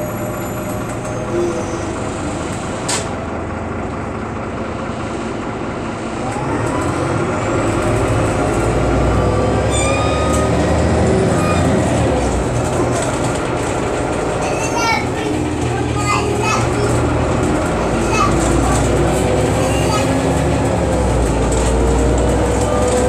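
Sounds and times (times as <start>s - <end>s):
bus engine and drivetrain: 0.0s - 23.0s
road noise: 0.0s - 23.0s.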